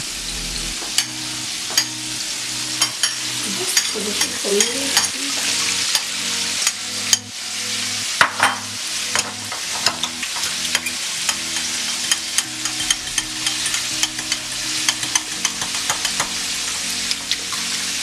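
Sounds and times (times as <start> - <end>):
food sizzling: 0.0 - 18.0.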